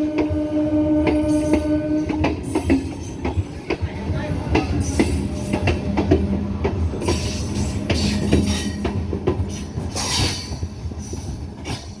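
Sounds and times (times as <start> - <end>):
train low hum: 0.0 - 12.0
train wheels clicking over rail joints: 1.0 - 12.0.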